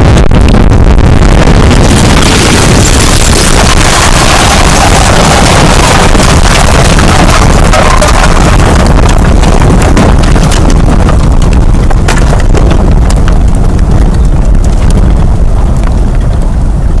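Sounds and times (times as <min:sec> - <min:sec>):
tornado roar: 0:00.0 - 0:17.0
debris impacts: 0:01.4 - 0:16.6.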